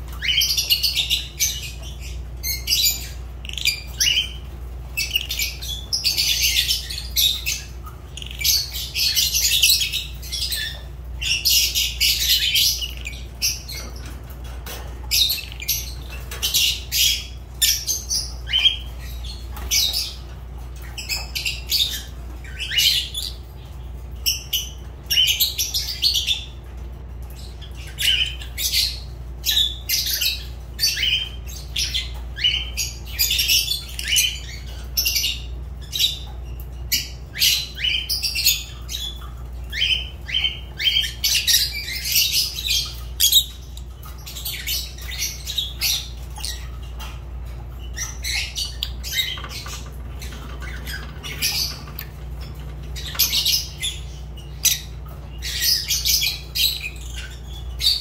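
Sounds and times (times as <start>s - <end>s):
birds chirping and squawking: 0.0s - 58.0s.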